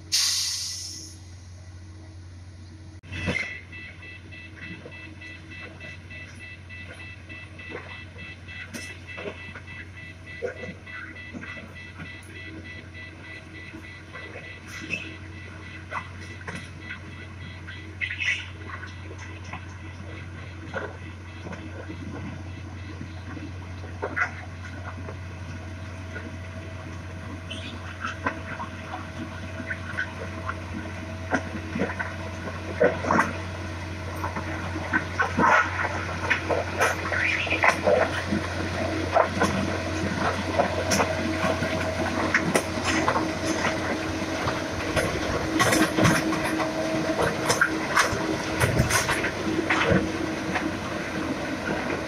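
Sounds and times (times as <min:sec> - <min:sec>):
machine engine hum: 0:00.9 - 0:52.0.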